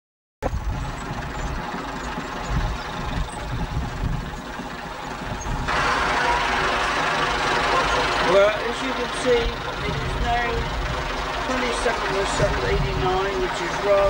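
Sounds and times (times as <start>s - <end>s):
tractor engine idling: 0.4s - 14.0s.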